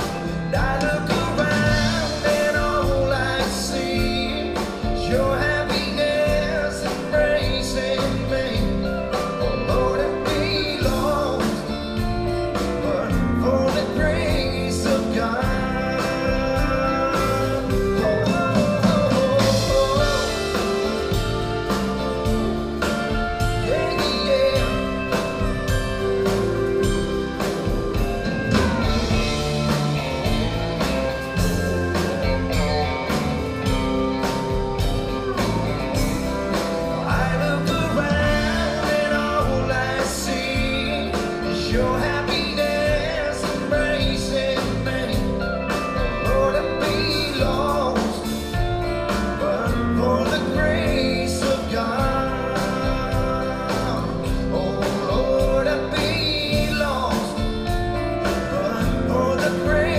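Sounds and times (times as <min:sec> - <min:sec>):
country band playing: 0:00.0 - 0:59.9.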